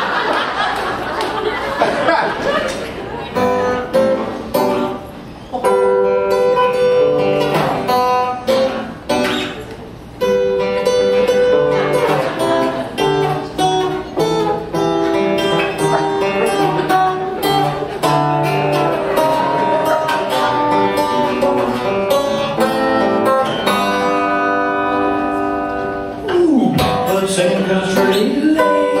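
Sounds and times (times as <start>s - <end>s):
acoustic guitar strummed and picked: 2.7s - 29.0s.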